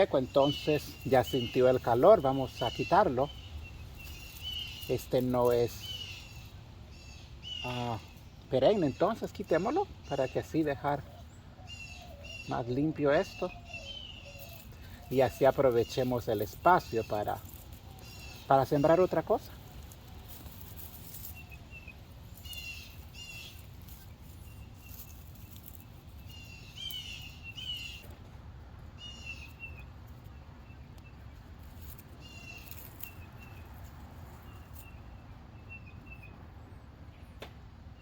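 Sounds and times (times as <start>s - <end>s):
songbirds chirping: 0.0s - 38.0s.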